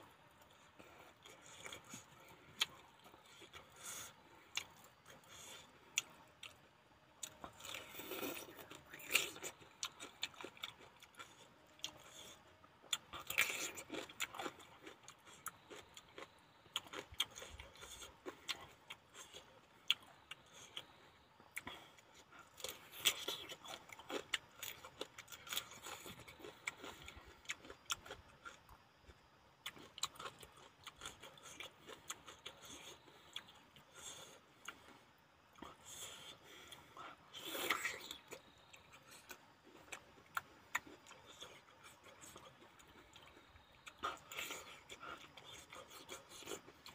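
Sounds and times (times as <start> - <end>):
chewing and crunching vegetable: 0.0 - 46.9.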